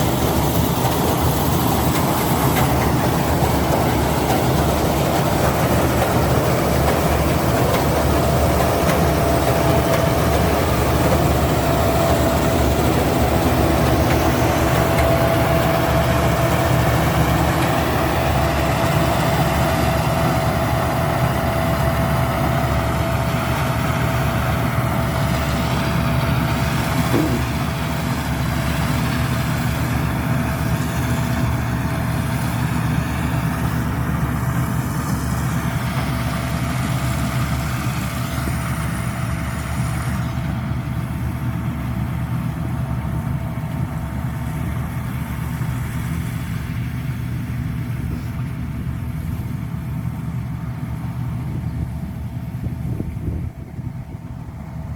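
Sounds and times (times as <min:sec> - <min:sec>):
harvester engine running: 0:00.0 - 0:54.9.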